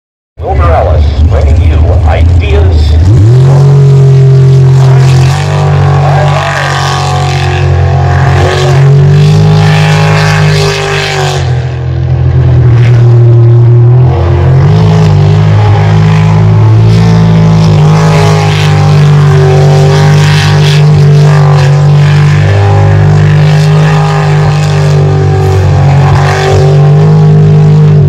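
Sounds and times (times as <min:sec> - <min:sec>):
boat engine at high revs: 0:00.4 - 0:28.0.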